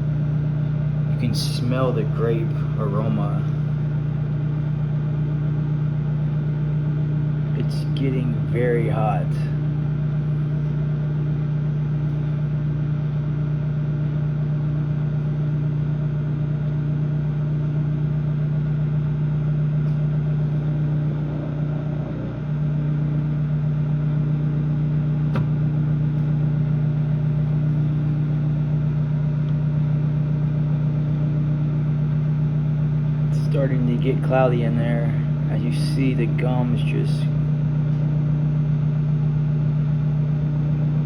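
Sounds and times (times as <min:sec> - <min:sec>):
microwave oven humming: 0:00.0 - 0:41.0.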